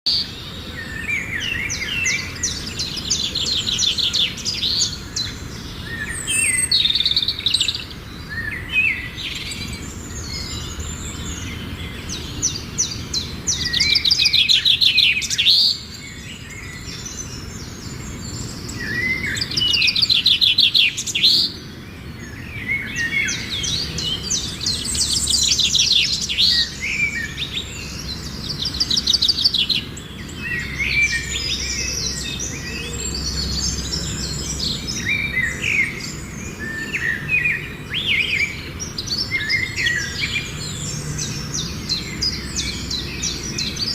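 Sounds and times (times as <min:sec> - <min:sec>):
songbirds trilling and chirping: 0:00.0 - 0:43.9.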